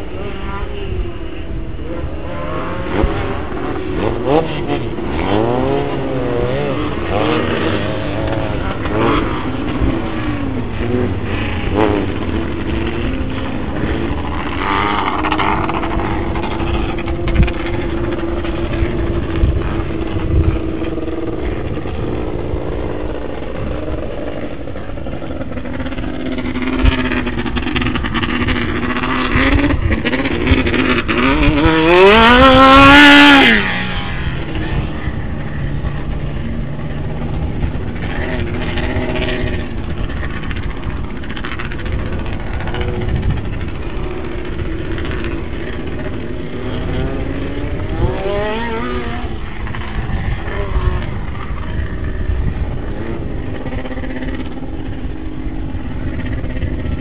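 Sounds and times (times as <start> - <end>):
buggy engines revving: 0.0 - 57.0.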